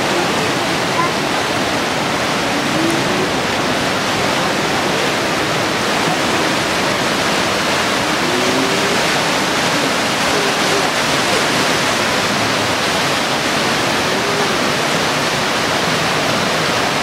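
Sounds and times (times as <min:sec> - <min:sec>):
river water rushing through weir: 0:00.0 - 0:17.0.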